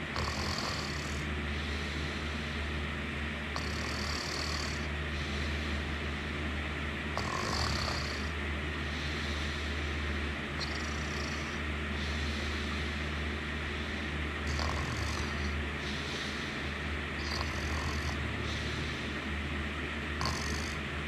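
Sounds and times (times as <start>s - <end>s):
person snoring: 0.0s - 2.6s, 3.5s - 5.9s, 7.2s - 19.3s, 20.2s - 20.8s
hissing breath: 0.0s - 6.5s, 7.2s - 19.5s
steady low rumble: 0.0s - 21.0s.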